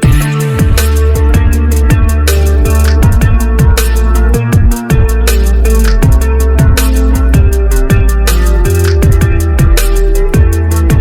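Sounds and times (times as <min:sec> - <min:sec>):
drum and bass music: 0:00.0 - 0:11.0.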